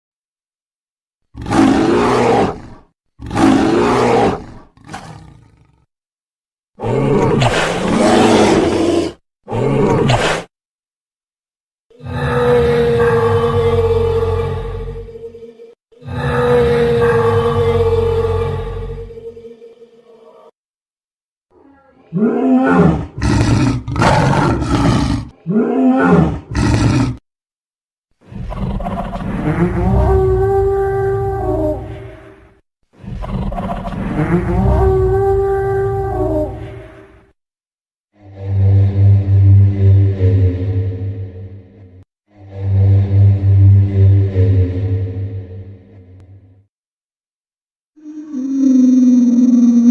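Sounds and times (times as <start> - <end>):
dinosaur roars: 1.3 - 5.9, 6.8 - 10.1, 11.9 - 20.6, 21.6 - 27.2, 28.3 - 37.3, 38.2 - 46.3, 48.0 - 49.9.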